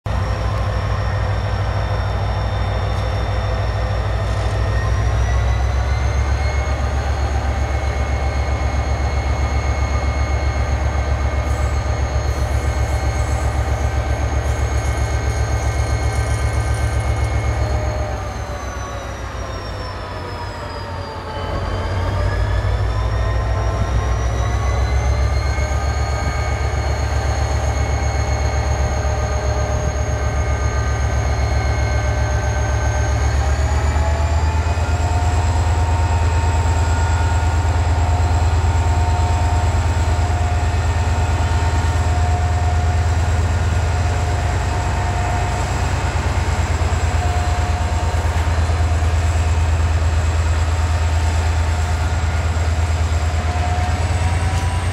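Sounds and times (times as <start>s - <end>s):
locomotive engine rumble with whine: 0.1s - 54.9s.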